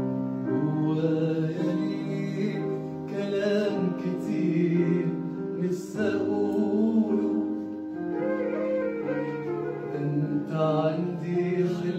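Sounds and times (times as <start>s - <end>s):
man singing: 0.4s - 11.9s.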